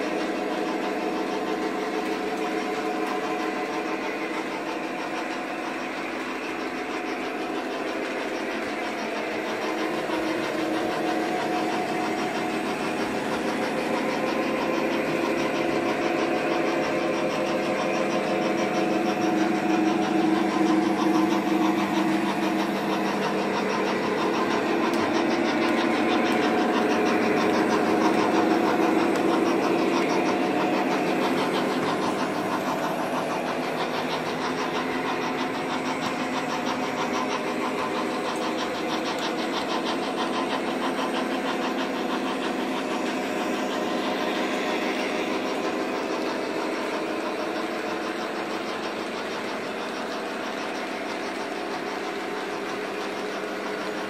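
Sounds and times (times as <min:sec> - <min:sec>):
diesel engine sound effect: 0:00.0 - 0:54.0
model train motors humming: 0:00.0 - 0:54.0
wheels rumbling on rail: 0:00.0 - 0:54.0.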